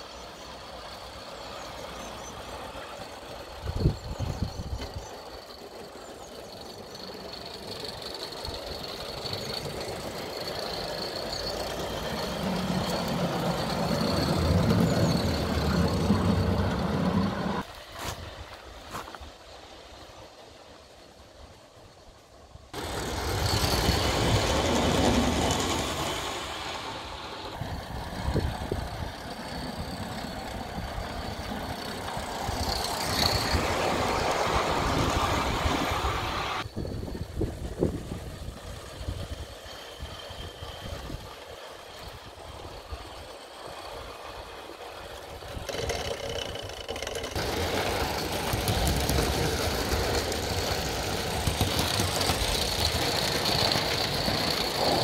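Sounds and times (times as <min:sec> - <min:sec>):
model steam engine exhaust: 0:00.0 - 0:18.3, 0:22.8 - 0:55.0
wheels running on rails: 0:00.0 - 0:55.0.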